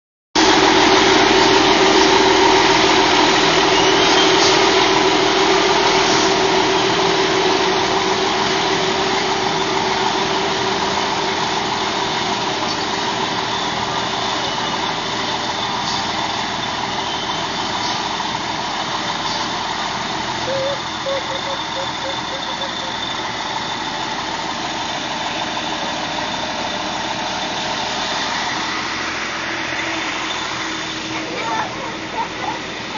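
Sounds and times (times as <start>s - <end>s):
diesel engine running: 0.4s - 32.9s.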